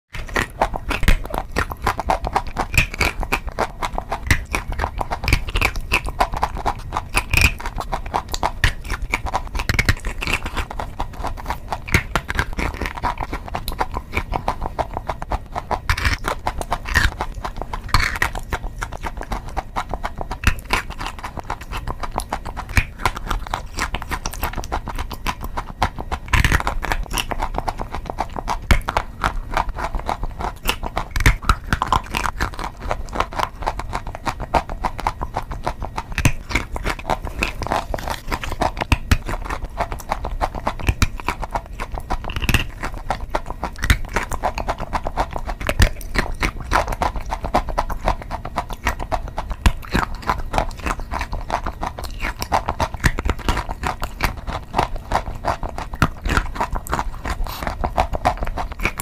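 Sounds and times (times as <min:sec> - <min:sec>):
crunchy chewing: 0:00.1 - 0:59.0.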